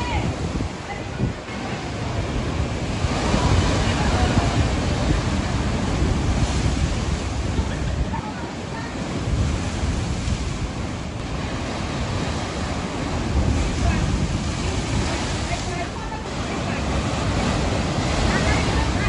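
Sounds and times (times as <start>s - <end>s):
sea surf breaking on rocks: 0.0s - 19.0s.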